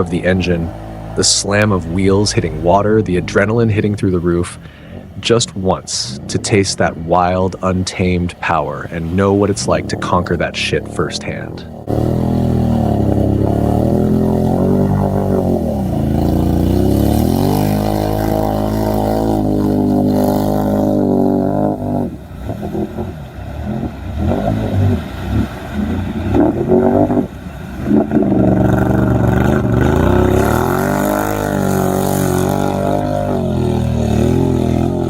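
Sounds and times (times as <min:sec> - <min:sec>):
truck engine revving hard: 0:00.0 - 0:35.0.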